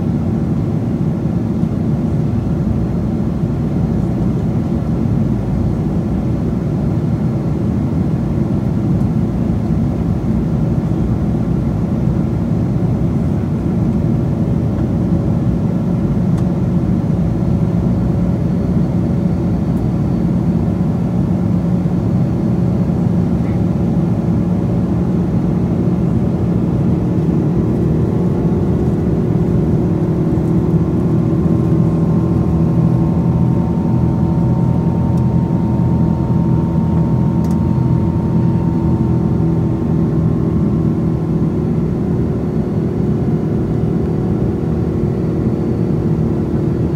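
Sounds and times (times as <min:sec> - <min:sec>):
jet engine drone in cabin: 0:00.0 - 0:46.9.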